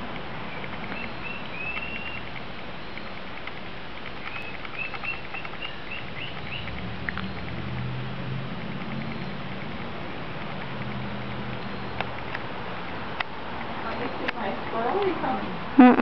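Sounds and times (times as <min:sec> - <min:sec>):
small birds chirping: 0:00.0 - 0:15.6
steady background hiss: 0:00.0 - 0:16.0.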